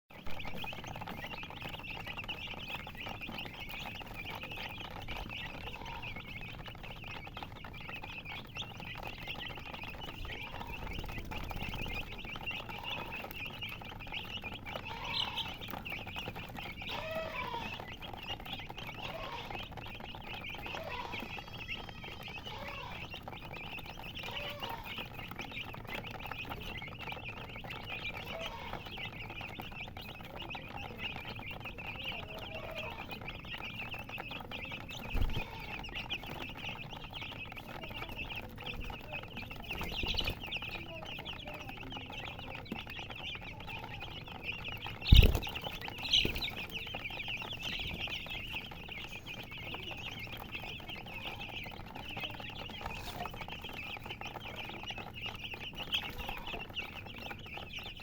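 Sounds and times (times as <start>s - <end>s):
baby chicks peeping: 0.1s - 58.0s
hen clucking: 0.2s - 58.0s.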